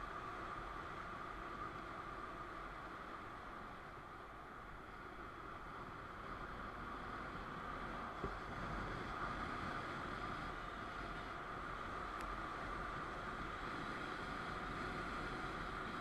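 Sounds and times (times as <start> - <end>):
wind and motorcycle road noise: 0.0 - 16.0.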